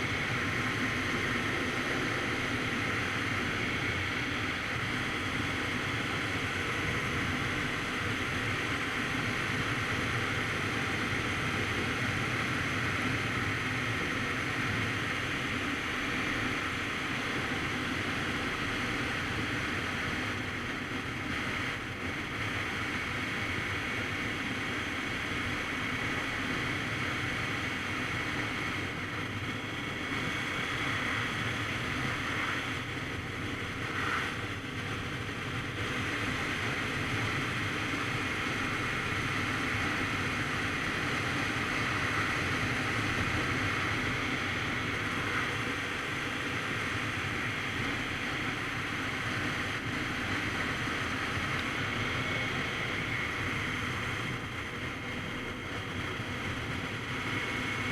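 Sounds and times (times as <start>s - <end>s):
road noise: 0.0s - 57.9s
wind rushing over microphone: 0.0s - 57.9s.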